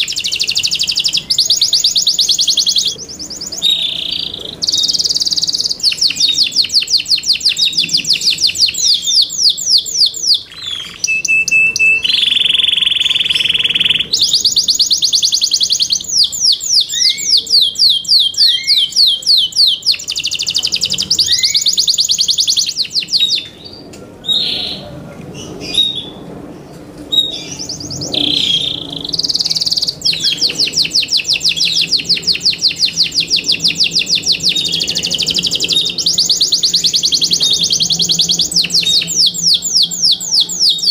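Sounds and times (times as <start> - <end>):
canary singing trills: 0.0 - 26.3, 27.1 - 40.9.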